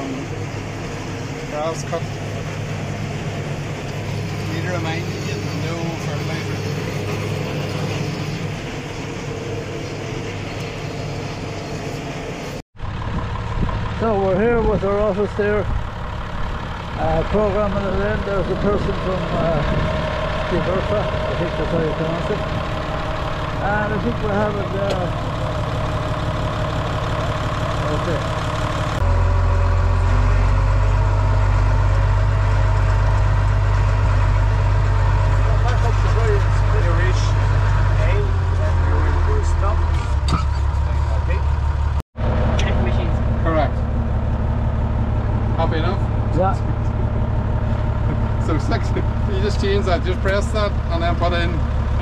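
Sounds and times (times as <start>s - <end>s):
tractor engine drone: 0.0s - 52.0s.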